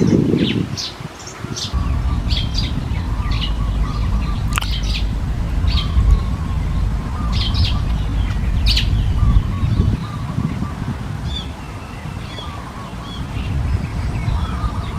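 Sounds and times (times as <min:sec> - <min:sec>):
birds chirping: 0:00.0 - 0:14.9
steady low rumble: 0:01.7 - 0:14.9.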